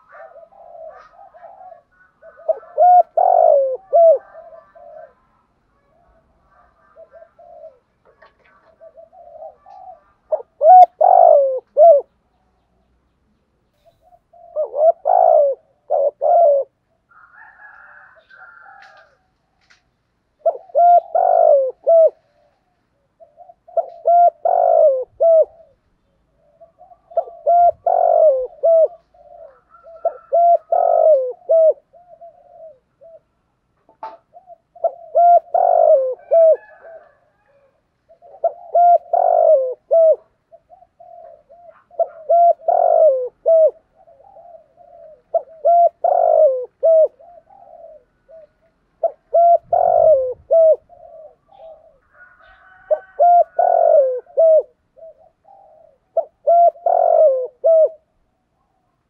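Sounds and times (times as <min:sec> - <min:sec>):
dove cooing: 0:00.0 - 0:12.4, 0:13.7 - 0:59.0.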